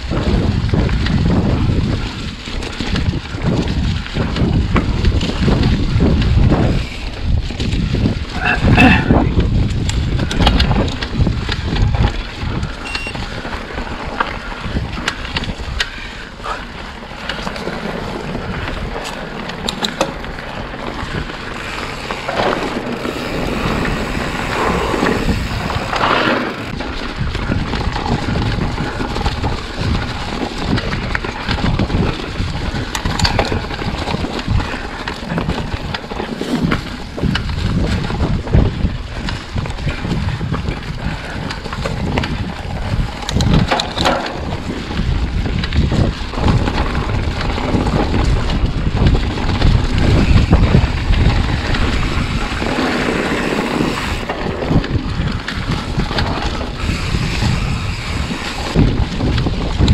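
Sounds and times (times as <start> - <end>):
bike rattling and knocking: 0.0 - 59.9
bike tyres rolling on dirt: 0.0 - 59.9
wind buffeting microphone: 0.0 - 59.9.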